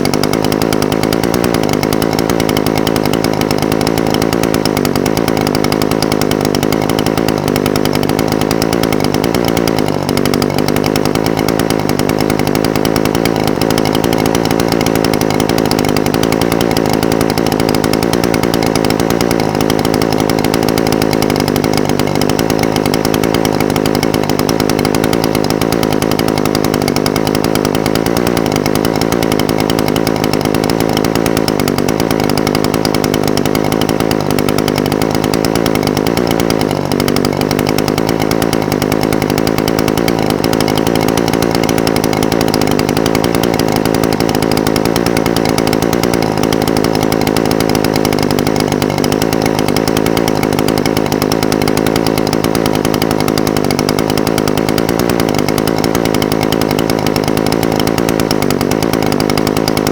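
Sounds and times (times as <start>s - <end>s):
brush cutter engine idling: 0.0s - 59.9s.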